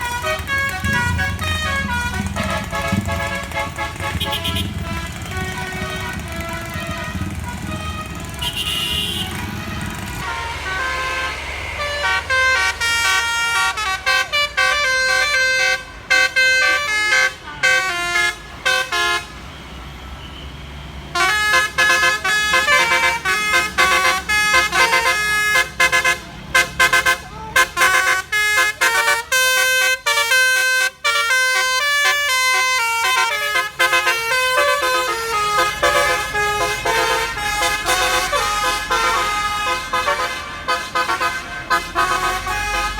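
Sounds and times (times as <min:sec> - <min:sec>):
musical air horns playing: 0:00.0 - 0:19.4, 0:21.1 - 0:42.9.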